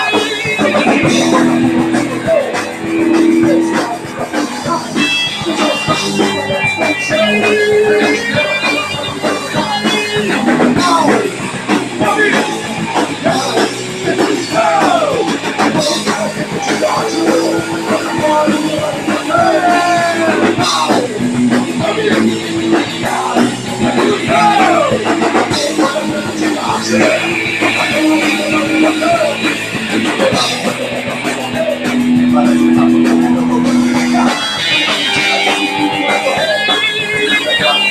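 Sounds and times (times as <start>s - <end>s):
pitch-bending guitar lines: 0.0s - 37.9s
punk rock band playing: 0.0s - 37.9s.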